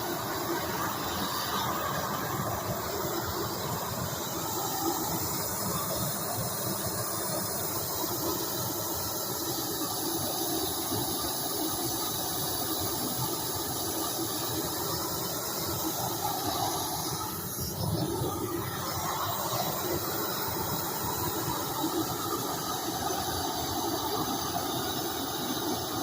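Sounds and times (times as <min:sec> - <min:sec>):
gas torch flame hissing: 0:00.0 - 0:26.0.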